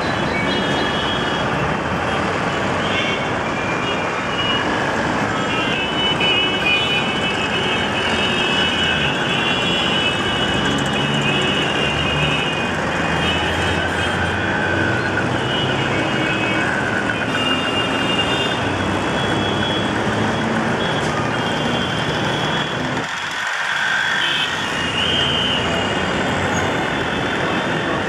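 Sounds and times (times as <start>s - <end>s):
traffic engine noise: 0.0s - 28.0s.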